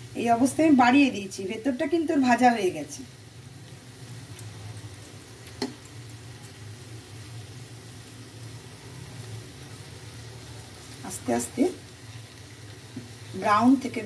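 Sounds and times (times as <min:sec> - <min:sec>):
oil sizzling with crackles: 0:00.0 - 0:14.0.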